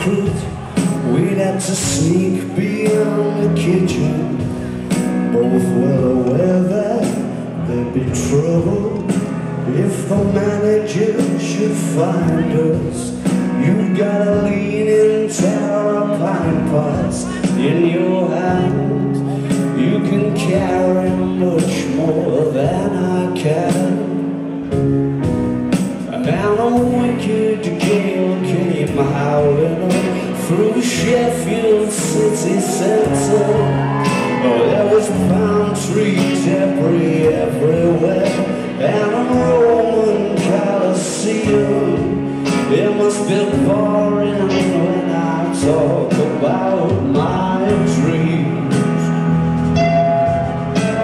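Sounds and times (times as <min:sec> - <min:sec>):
man singing: 0:00.0 - 0:24.7, 0:25.8 - 0:51.0
drums: 0:00.0 - 0:51.0
electric guitars: 0:00.0 - 0:51.0.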